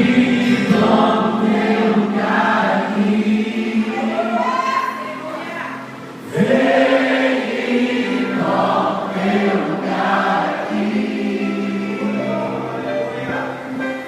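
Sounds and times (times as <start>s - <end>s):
voices singing together: 0.0s - 13.7s
worship band playing: 0.0s - 14.0s.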